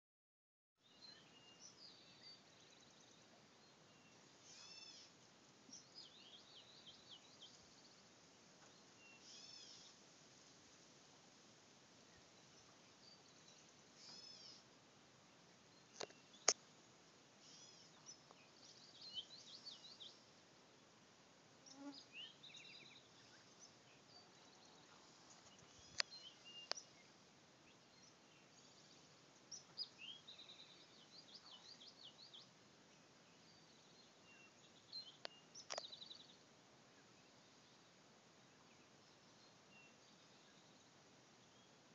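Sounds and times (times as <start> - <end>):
songbirds chirping and trilling: 0.8 - 41.9.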